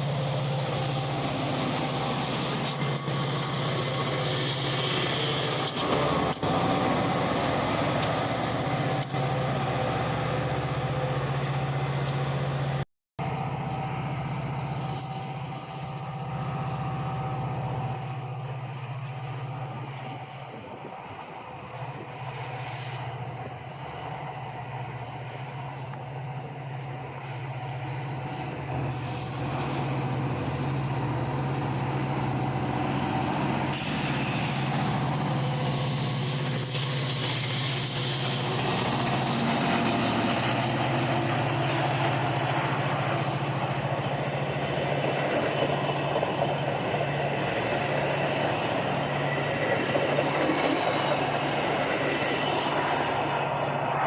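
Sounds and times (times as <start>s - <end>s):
locomotive engine drone: 0.0s - 54.0s
rail cars rumbling and clattering: 0.0s - 54.0s.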